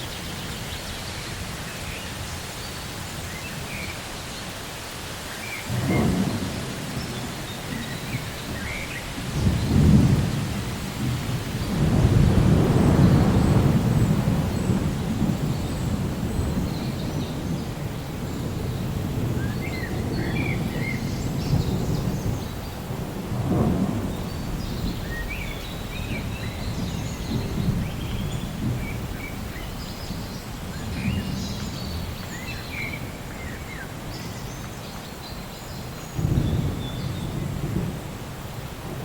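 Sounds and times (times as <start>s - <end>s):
steady rain: 0.0s - 39.0s
rolling thunder rumble: 5.7s - 34.9s, 36.0s - 39.0s.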